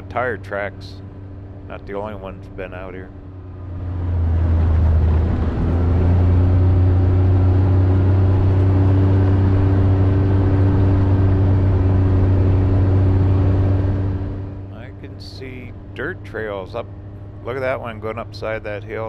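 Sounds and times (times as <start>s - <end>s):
off-road vehicle engine under load: 0.0s - 19.0s.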